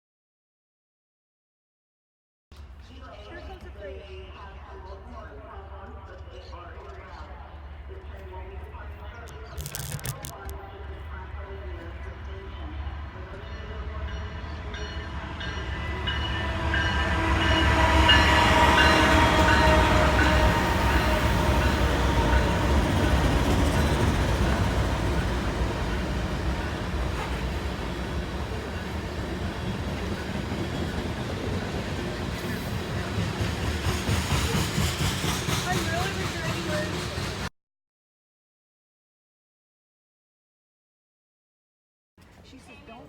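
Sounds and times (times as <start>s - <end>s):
train rolling past: 2.9s - 37.5s.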